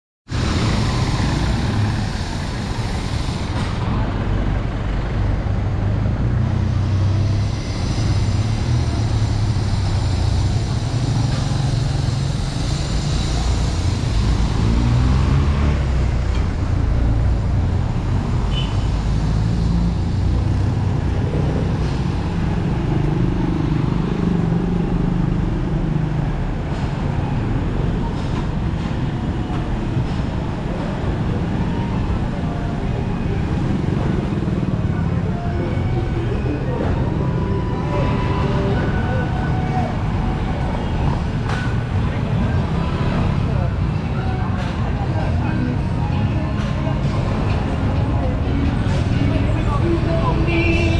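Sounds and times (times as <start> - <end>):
traffic engines running and passing: 0.3 - 50.9.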